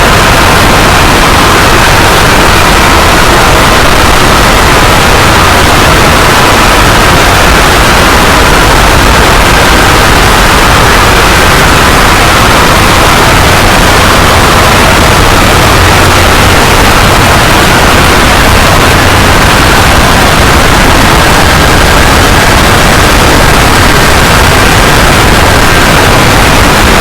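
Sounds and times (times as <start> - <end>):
harsh distorted static: 0.0 - 27.0.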